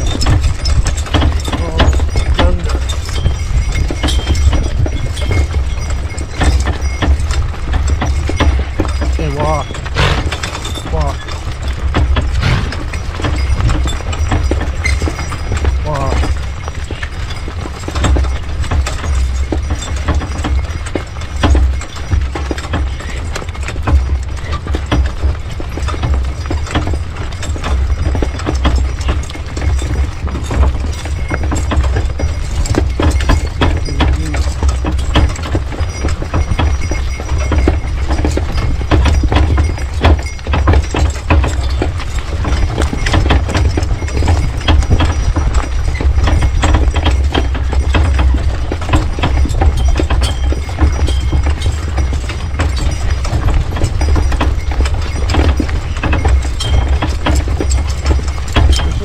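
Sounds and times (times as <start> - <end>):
horse hooves clip-clopping: 0.0 - 59.0.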